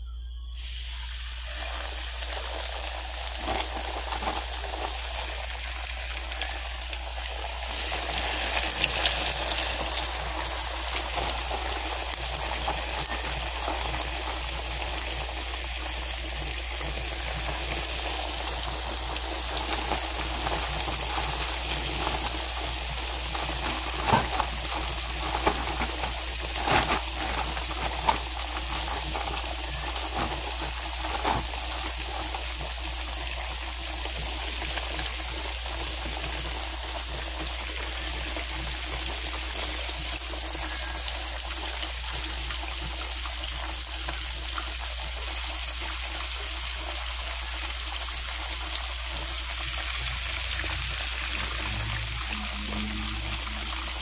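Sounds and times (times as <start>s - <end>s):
fish deep-frying in oil: 0.5s - 54.0s.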